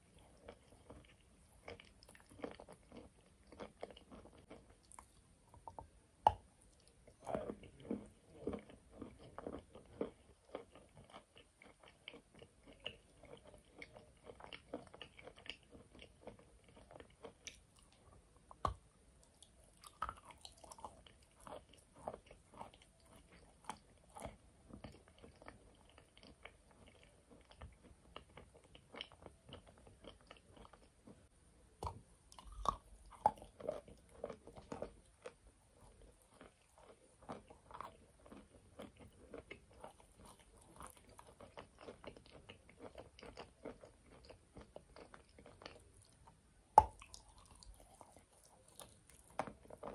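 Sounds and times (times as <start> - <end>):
chewing crunches: 0.1 - 49.9.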